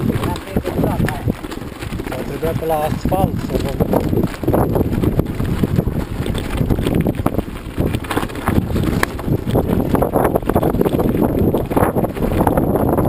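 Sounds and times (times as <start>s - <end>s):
tyres crunching on gravel: 0.0s - 12.9s
bicycle rattling: 0.0s - 13.0s.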